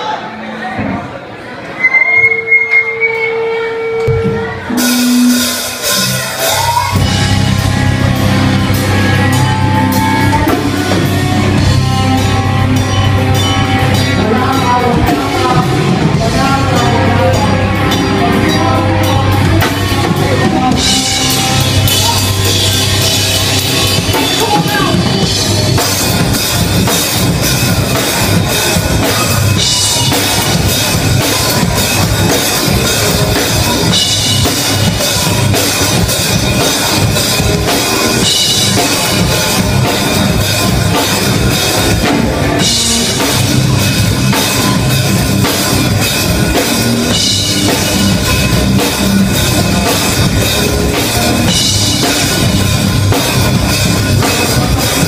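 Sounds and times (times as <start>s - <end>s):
rock band playing live: 1.8s - 55.0s
drum kit: 2.6s - 55.0s.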